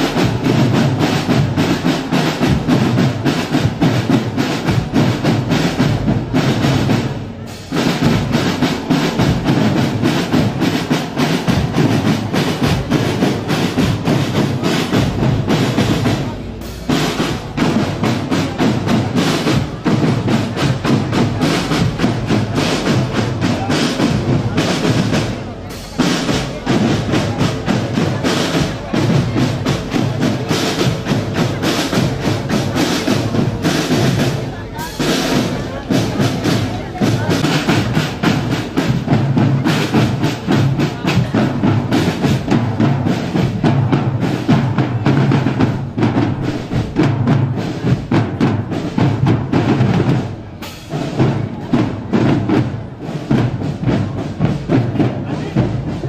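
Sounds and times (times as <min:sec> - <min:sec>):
marching drumline cadence: 0:00.0 - 0:56.0.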